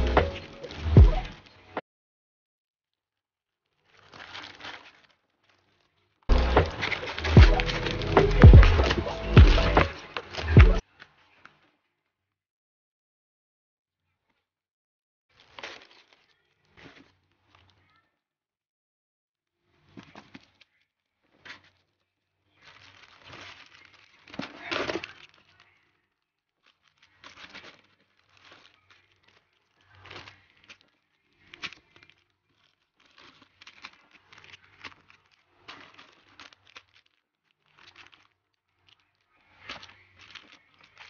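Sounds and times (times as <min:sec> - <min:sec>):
plastic packets crinkling: 0:00.0 - 0:01.8, 0:03.5 - 0:12.1, 0:15.3 - 0:18.1, 0:19.7 - 0:41.0.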